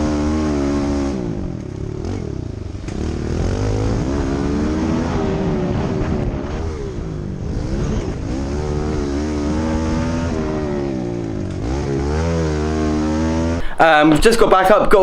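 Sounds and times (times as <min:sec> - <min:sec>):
small motorbike engine: 0:00.0 - 0:13.7.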